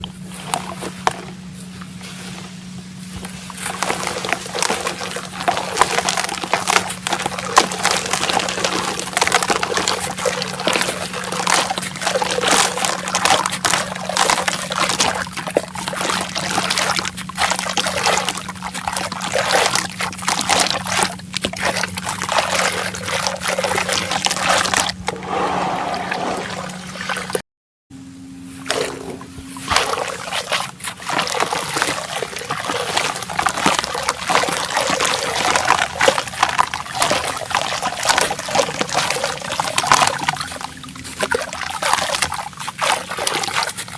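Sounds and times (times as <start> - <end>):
crumbles crackling in water: 0.0 - 25.2, 28.6 - 43.9
steady low hum: 0.0 - 27.4, 28.0 - 43.9.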